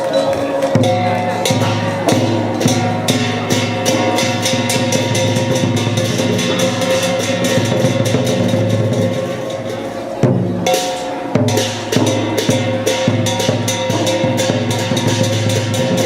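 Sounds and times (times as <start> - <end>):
gongs and cymbals: 0.0 - 16.0
fast drumming: 0.4 - 16.0.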